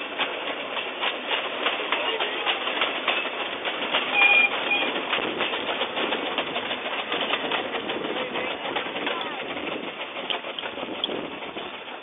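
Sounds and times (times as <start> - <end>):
steam locomotive running past: 0.0 - 12.0
wheels clicking on track: 0.0 - 12.0.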